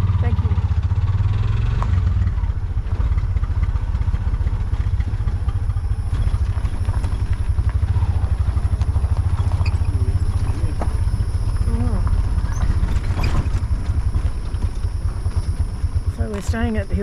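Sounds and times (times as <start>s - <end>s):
auto-rickshaw engine throbbing: 0.0s - 17.0s.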